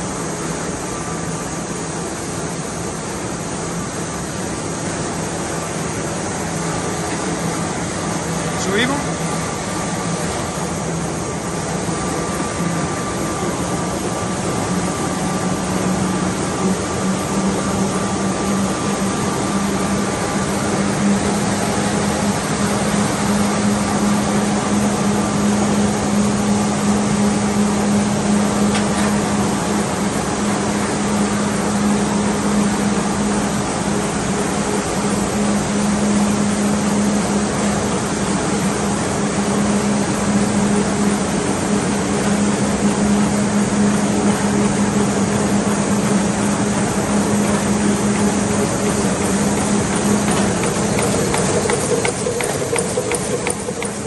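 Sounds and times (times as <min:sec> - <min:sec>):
printing press running: 0:04.3 - 0:54.0.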